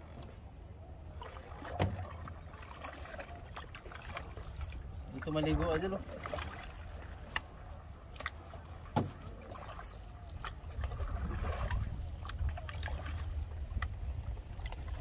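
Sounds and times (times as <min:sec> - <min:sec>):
paddle strokes in water: 0:00.0 - 0:15.0.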